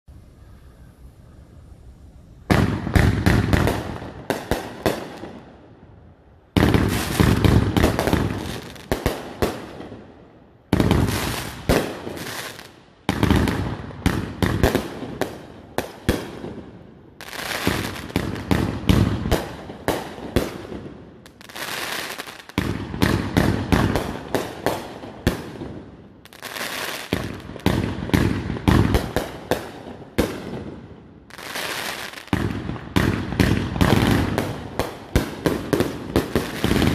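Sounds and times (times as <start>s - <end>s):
fireworks bursting and crackling: 2.5s - 5.6s, 6.5s - 36.9s.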